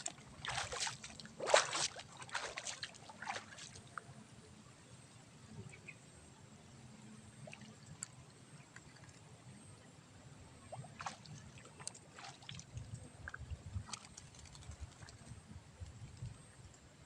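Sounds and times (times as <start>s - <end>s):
faint low rumble: 0.0s - 17.0s.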